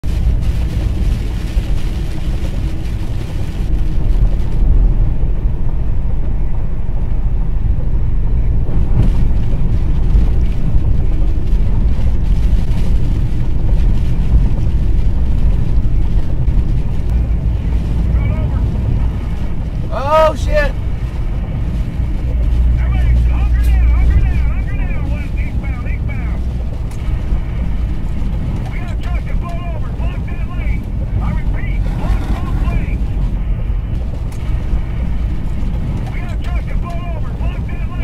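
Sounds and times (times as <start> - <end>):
truck engine and road noise: 0.0 - 38.0
wind buffeting truck cab: 0.0 - 38.0.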